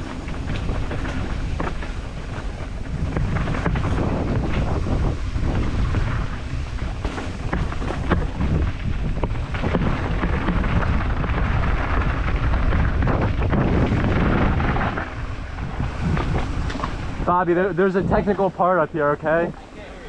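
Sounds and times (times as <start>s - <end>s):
bike rattling and knocking: 0.0s - 19.6s
bike tyres crunching on dirt: 0.0s - 20.0s
wind buffeting microphone: 0.0s - 20.0s.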